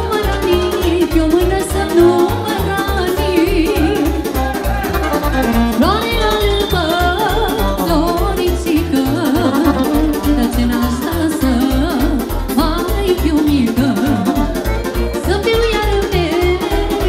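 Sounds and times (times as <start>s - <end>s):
woman singing into a microphone: 0.0s - 4.4s, 5.7s - 17.0s
folk band with fast bass beat: 0.0s - 17.0s.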